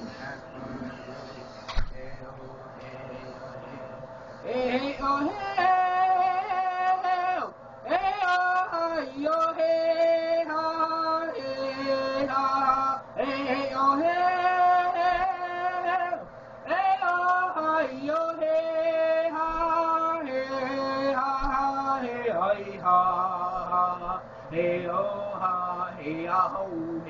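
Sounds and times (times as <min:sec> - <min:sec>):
person singing unaccompanied: 0:04.4 - 0:27.0.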